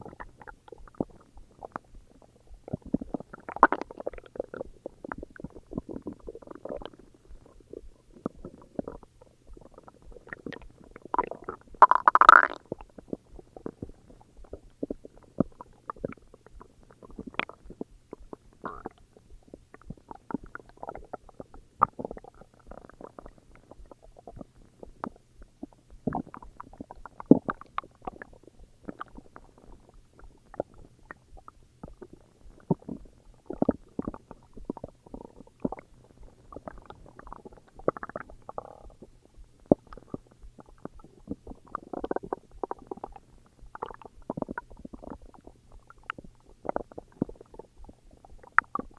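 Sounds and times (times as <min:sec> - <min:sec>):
stomach growling and gurgling: 0:00.0 - 0:48.9.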